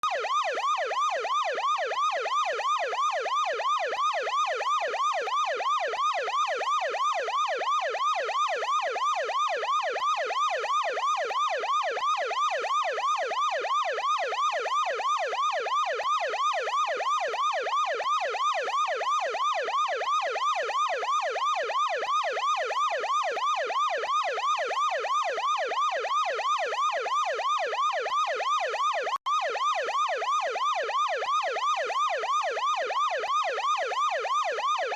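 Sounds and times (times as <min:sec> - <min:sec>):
ambulance yelp siren: 0:00.0 - 0:34.9.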